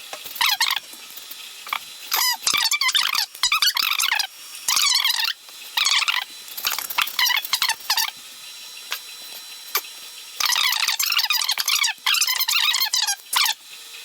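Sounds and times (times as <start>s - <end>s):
stepper motors whining: 1.6s - 13.6s.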